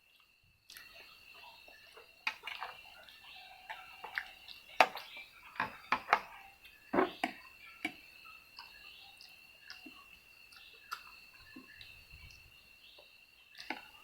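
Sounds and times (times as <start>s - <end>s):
steady high-pitched whine: 0.0s - 14.0s.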